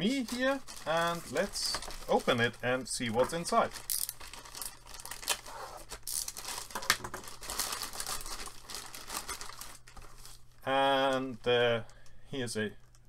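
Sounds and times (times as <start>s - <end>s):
plastic mailer bag crinkling: 0.0s - 12.0s.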